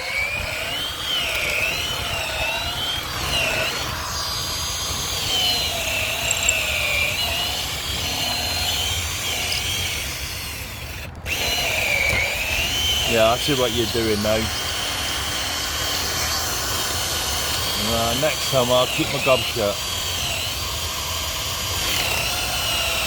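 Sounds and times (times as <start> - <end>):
electric drill boring into wood: 0.0 - 23.0.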